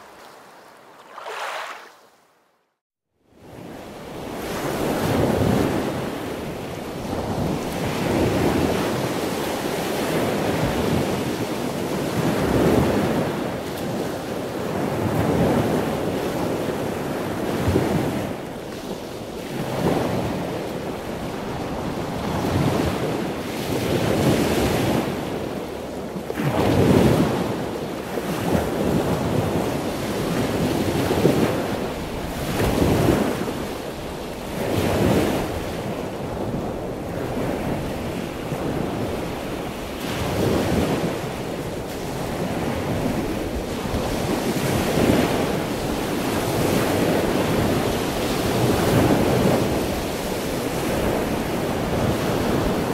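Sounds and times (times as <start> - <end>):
ocean surf washing: 0.0 - 2.1, 3.4 - 52.9.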